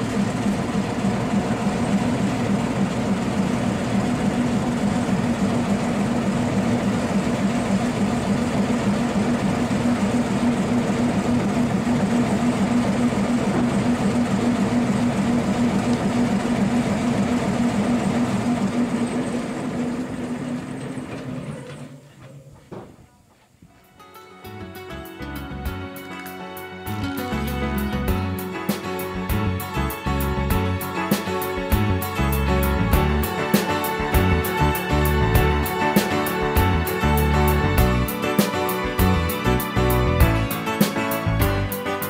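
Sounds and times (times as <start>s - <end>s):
locomotive diesel engine humming: 0.0s - 23.3s, 24.4s - 42.0s.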